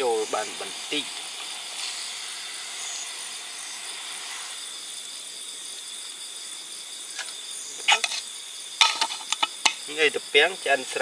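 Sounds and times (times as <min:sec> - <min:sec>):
high drone of insects: 0:00.0 - 0:11.0
steady hiss: 0:00.0 - 0:11.0.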